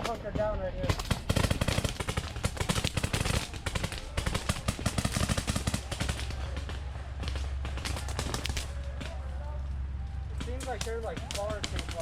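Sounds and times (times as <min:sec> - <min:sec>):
paintball markers firing: 0:00.9 - 0:09.2, 0:10.4 - 0:12.0.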